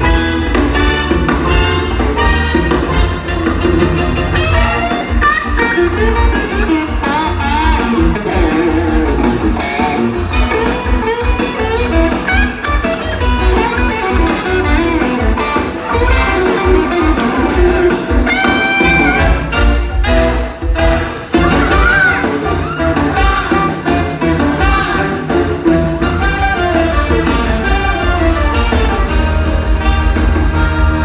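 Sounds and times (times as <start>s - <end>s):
stage musical dance music: 0.0s - 31.0s.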